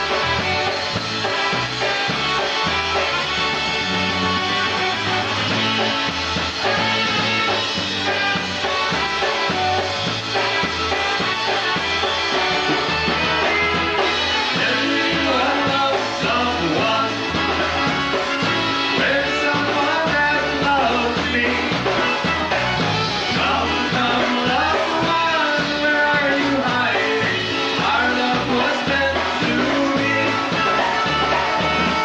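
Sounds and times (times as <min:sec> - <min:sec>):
polka band playing: 0:00.0 - 0:32.0
pulsing bass line: 0:00.0 - 0:32.0.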